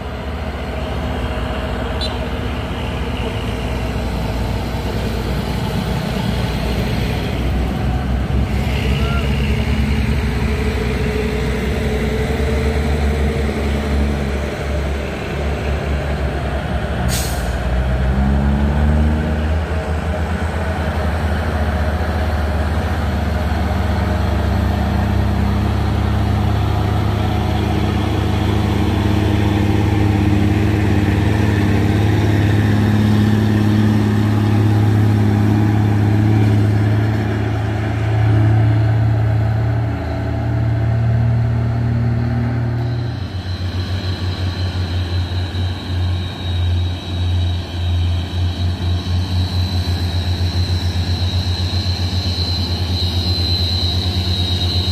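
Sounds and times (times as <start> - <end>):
heavy truck engine droning: 0.0 - 54.9.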